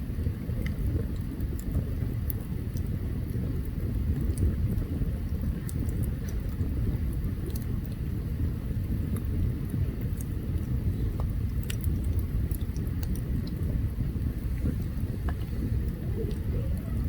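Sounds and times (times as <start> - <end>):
campfire crackling and popping: 0.0 - 17.0
low rumble of fire: 0.0 - 17.0.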